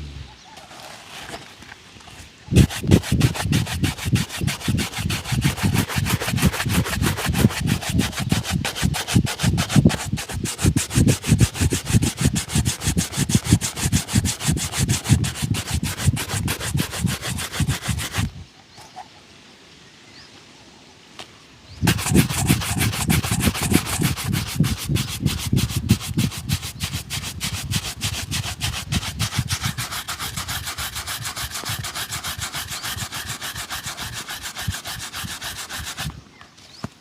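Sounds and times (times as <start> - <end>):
shoe shine scrubbing: 2.5 - 18.3, 21.8 - 36.2.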